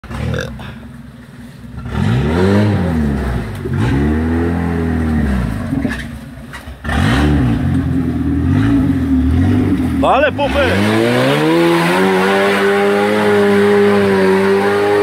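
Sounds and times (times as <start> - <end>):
car engine revving under load: 1.6 - 15.0.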